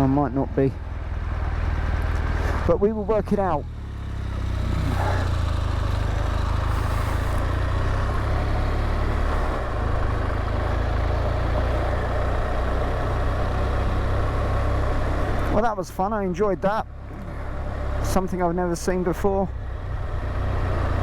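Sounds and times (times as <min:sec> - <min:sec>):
motorcycle engine droning: 0:00.0 - 0:21.0
road and wind noise: 0:00.0 - 0:21.0.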